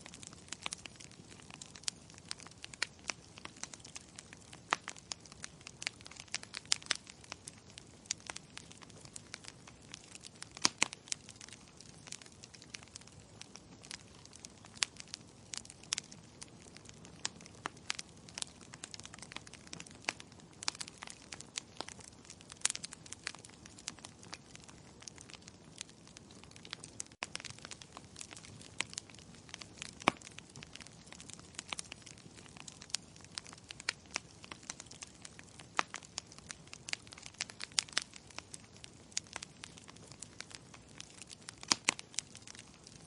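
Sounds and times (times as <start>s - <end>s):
burning logs crackling and popping: 0.0s - 43.0s
low steady fire hiss: 0.0s - 43.0s.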